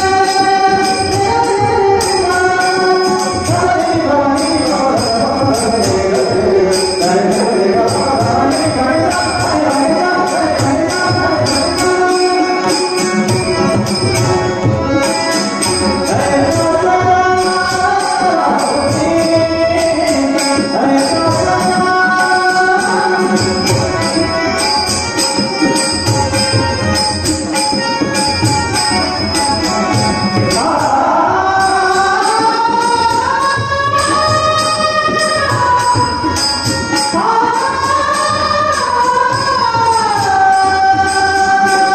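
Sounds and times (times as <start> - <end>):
harmonium melody: 0.0 - 41.9
jingling percussion: 0.0 - 41.9.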